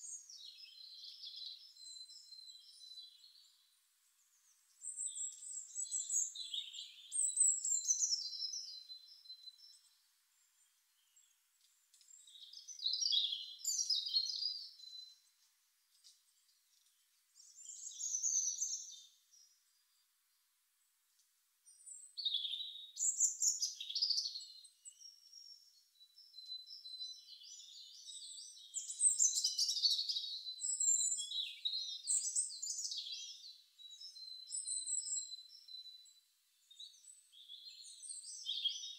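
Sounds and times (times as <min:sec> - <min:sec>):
songbird twittering and warbling: 0:00.0 - 0:20.0, 0:21.6 - 0:38.9.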